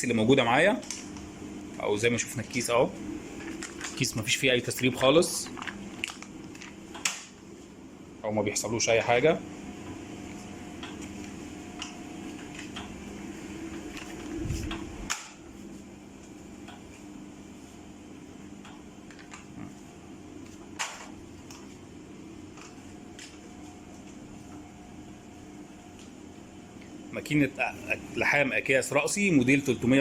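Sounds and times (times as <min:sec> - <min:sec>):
band sealer motor hum: 0:00.0 - 0:30.0.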